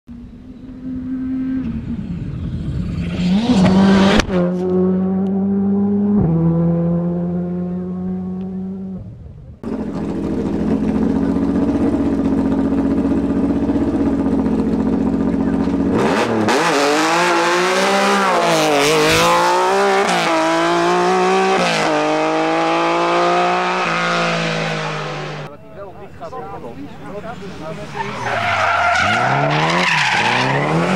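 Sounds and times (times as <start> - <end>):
rally car engine revving: 0.6 - 30.9.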